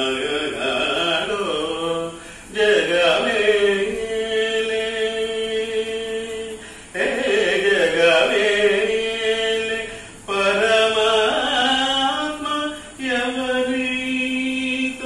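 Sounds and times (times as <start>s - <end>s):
man singing chant-like song: 0.0s - 15.0s.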